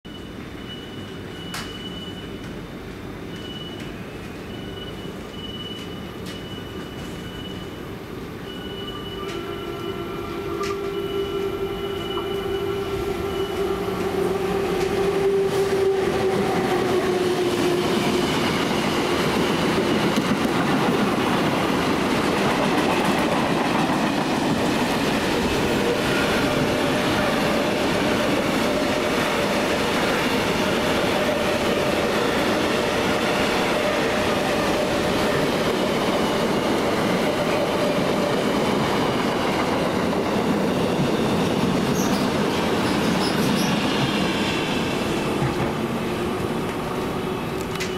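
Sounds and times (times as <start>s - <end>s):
electric locomotive whine: 0.1s - 47.9s.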